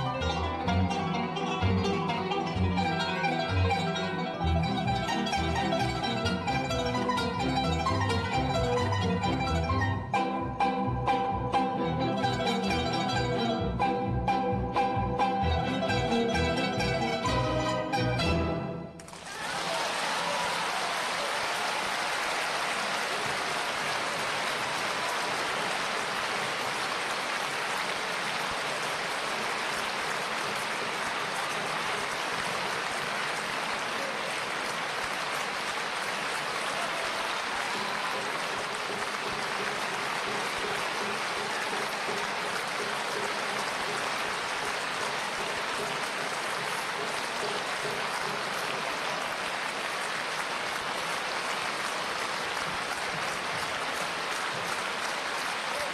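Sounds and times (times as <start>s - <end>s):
audience applauding: 0.0s - 10.0s, 19.0s - 55.9s.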